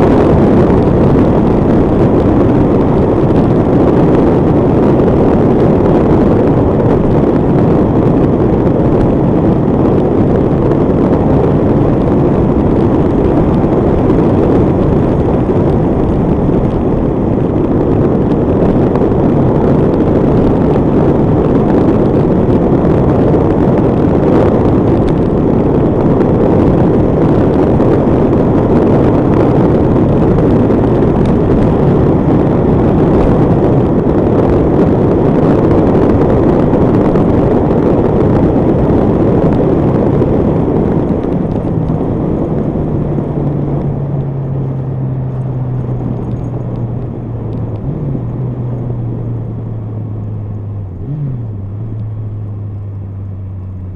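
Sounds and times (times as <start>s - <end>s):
wind rush on microphone: 0.0s - 53.9s.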